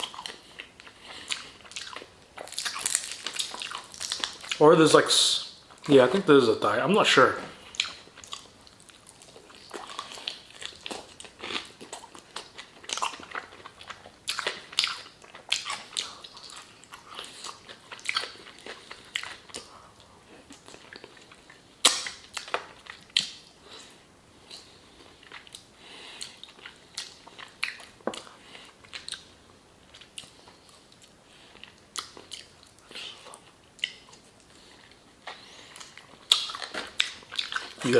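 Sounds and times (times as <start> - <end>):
person chewing crispy chicken: 0.0 - 4.7, 7.6 - 37.9.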